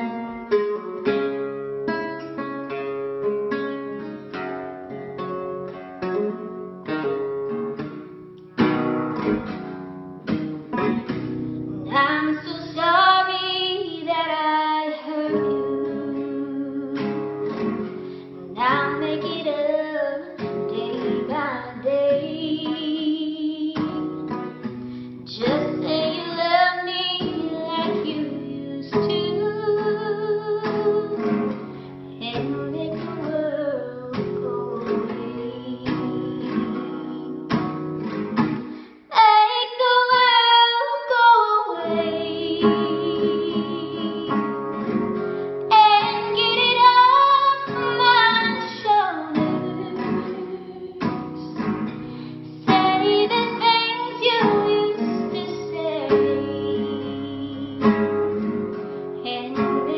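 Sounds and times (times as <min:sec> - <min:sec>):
strummed nylon-string guitar: 0:00.0 - 0:59.9
woman singing country song: 0:00.0 - 0:59.9.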